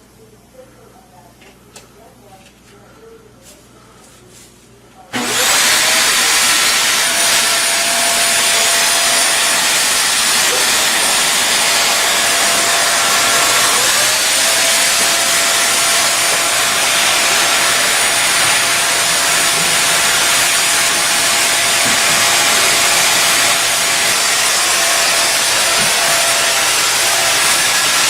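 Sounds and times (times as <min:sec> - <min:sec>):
vacuum cleaner running on carpet: 0:05.2 - 0:28.0.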